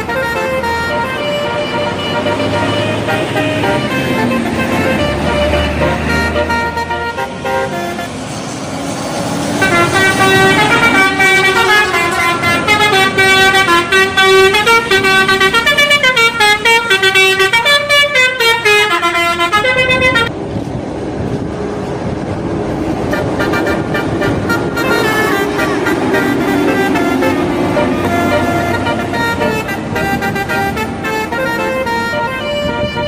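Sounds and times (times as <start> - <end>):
multi-note air horn tune: 0.0 - 8.4, 9.6 - 20.3, 23.1 - 33.0
engine and road noise: 0.0 - 33.0.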